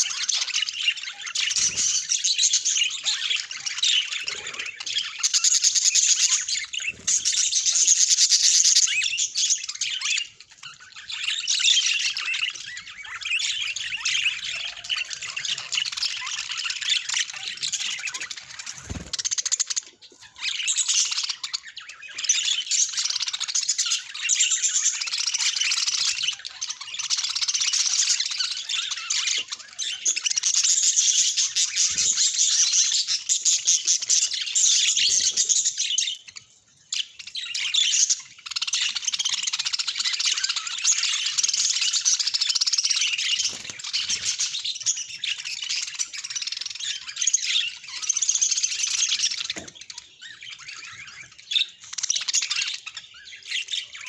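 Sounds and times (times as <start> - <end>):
small birds chirping and chattering: 0.0 - 54.0.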